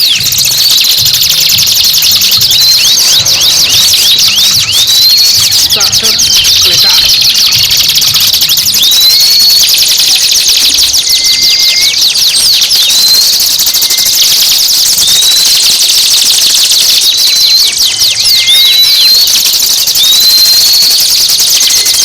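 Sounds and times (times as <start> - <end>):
bird rising whistle: 0.0 - 22.0
songbird chattering trill: 0.0 - 22.0.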